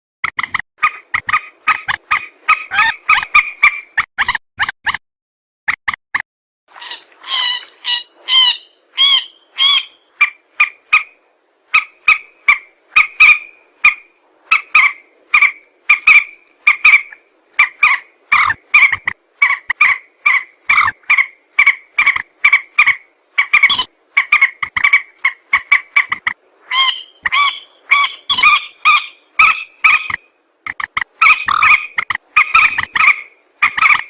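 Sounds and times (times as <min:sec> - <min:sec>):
rail bird calling: 0:00.8 - 0:03.9, 0:06.8 - 0:34.0.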